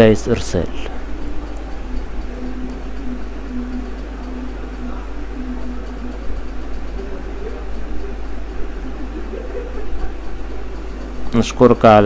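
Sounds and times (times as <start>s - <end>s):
faint pulsing tone: 0.0s - 12.0s
low hum and hiss: 0.0s - 12.0s.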